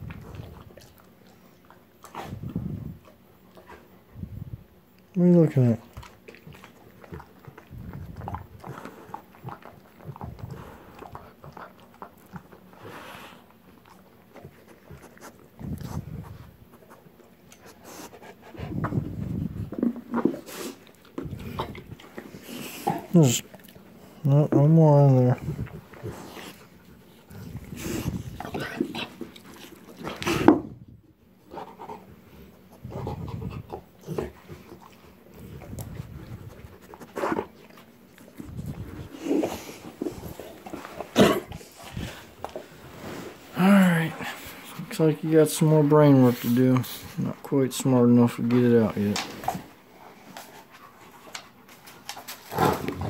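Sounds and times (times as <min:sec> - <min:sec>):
dog panting: 0:05.6 - 0:30.7, 0:31.3 - 0:53.0.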